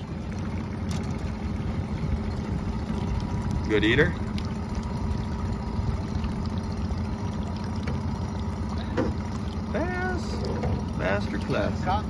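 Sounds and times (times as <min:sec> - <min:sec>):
outboard motor idling: 0:00.0 - 0:12.0
water lapping against hull: 0:00.0 - 0:12.0.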